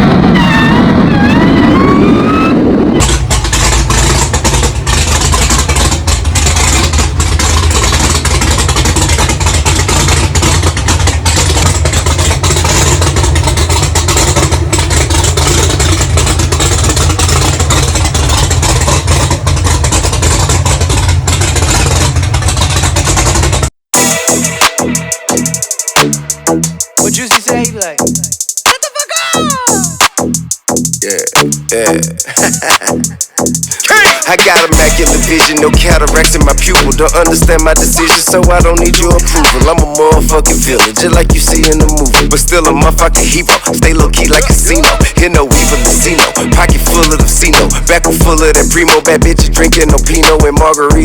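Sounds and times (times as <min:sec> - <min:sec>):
car engine revving: 0:00.0 - 0:28.5, 0:29.8 - 0:51.0.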